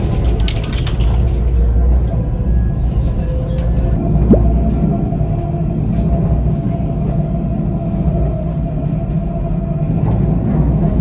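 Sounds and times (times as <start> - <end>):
tram wheels rumbling: 0.0 - 11.0.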